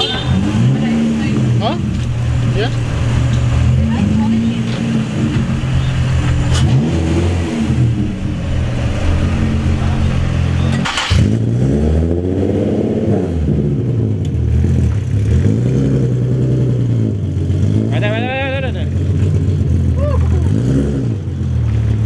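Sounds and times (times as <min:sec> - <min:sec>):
car engines idling and revving: 0:00.0 - 0:22.0.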